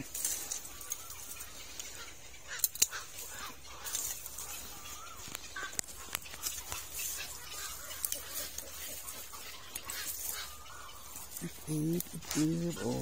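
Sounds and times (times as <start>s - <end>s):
bird wavy calls: 0.0s - 13.0s
branches snapping and crackling: 0.0s - 13.0s.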